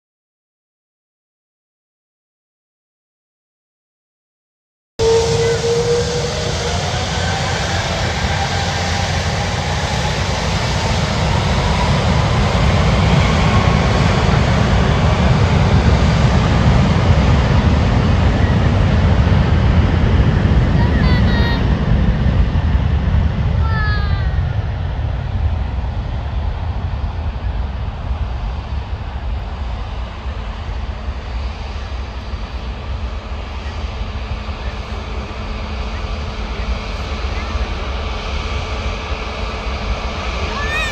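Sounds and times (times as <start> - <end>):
faint rising engine whine: 5.0 - 40.9
jet airliner engines rumbling: 5.0 - 40.9.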